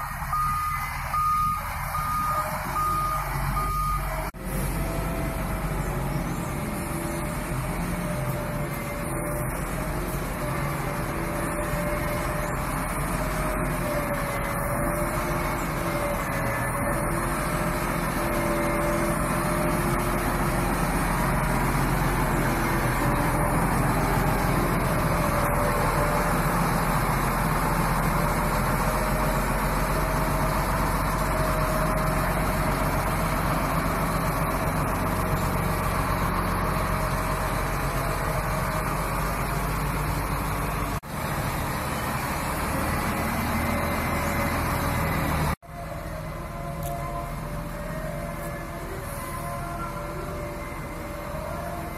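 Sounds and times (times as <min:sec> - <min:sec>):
high tone over engine drone: 0:00.0 - 0:41.0, 0:43.2 - 0:51.9
wheel loader diesel engine: 0:00.0 - 0:51.9.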